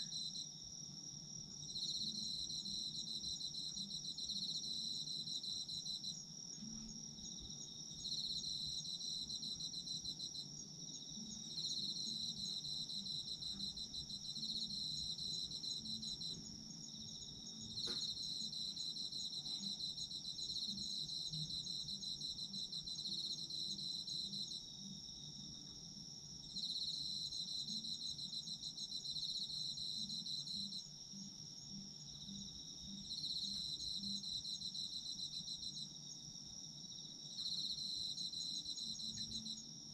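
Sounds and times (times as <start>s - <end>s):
high steady cricket trill: 0.0s - 39.9s
lower pulsing insect song: 0.0s - 39.9s.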